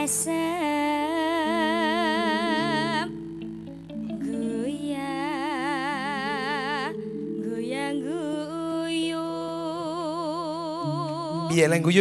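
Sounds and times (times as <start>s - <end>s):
woman singing through a pa: 0.0s - 3.2s, 4.1s - 11.6s
sustained keyboard notes: 0.0s - 12.0s.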